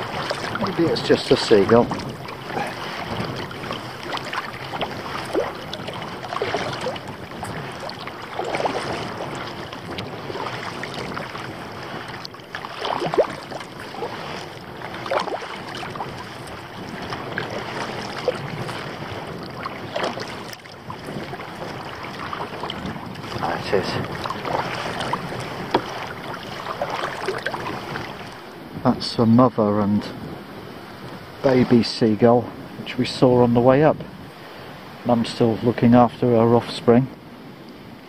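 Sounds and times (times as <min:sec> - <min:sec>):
paddle splashing in water: 0:00.0 - 0:28.8, 0:30.4 - 0:32.8
wind on microphone: 0:00.0 - 0:38.0.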